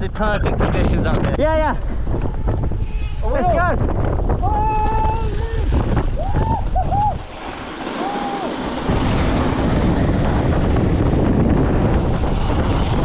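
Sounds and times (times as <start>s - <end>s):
wind blasting microphone: 0.0s - 13.0s.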